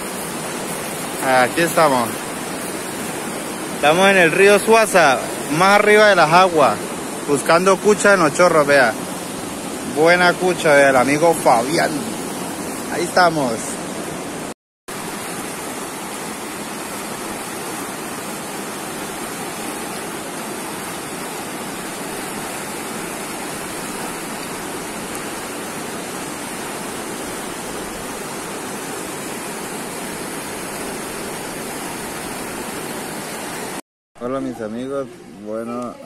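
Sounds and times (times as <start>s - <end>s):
river rushing over rapids: 0.0s - 36.0s.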